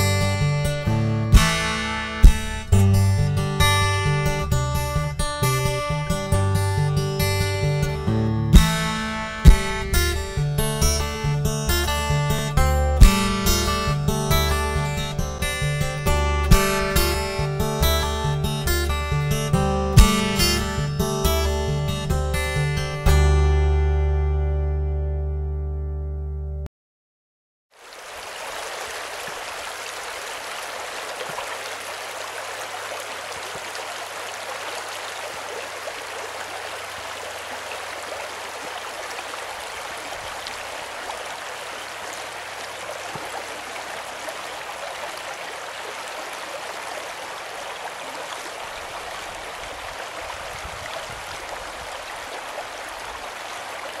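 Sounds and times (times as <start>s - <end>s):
stream rushing water: 0.0s - 21.6s, 27.8s - 54.0s.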